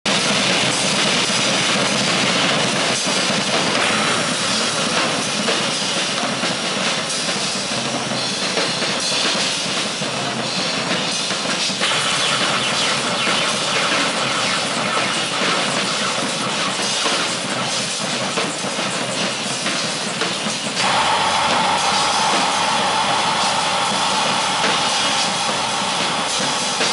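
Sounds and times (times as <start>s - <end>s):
harsh electronic noise music: 0.4s - 8.5s, 11.7s - 19.5s, 20.7s - 26.9s.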